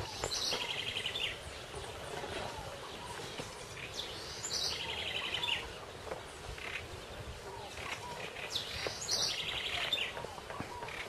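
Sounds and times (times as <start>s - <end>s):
bird calling with trill: 0.0s - 5.9s, 6.5s - 11.0s
outdoor background noise: 0.0s - 11.0s.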